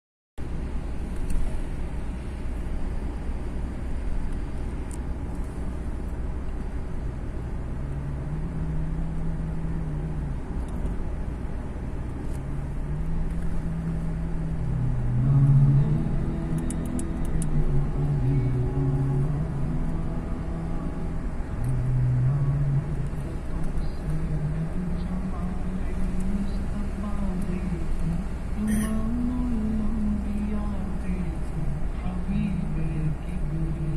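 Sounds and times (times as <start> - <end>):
car engine and road noise: 0.4 - 33.9
humming drone: 0.9 - 33.9.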